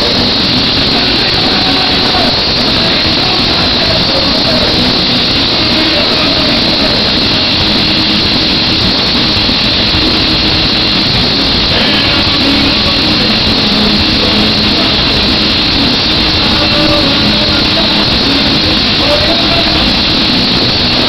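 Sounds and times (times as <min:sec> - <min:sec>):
punk band playing live: 0:00.0 - 0:21.0.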